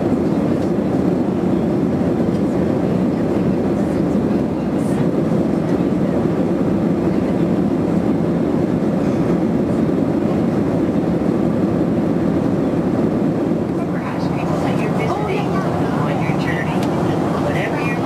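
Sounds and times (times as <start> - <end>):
airliner cabin roar: 0.0 - 18.0.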